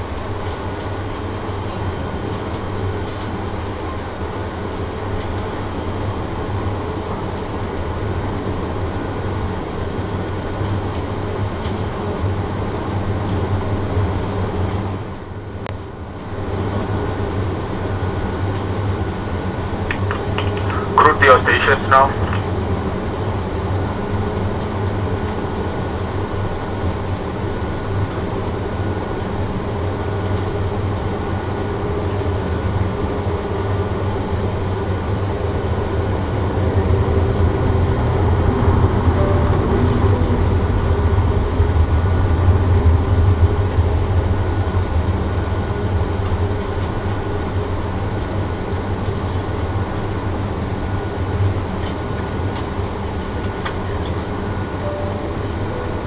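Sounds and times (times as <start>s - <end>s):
jet engines idling low drone: 0.0s - 56.0s.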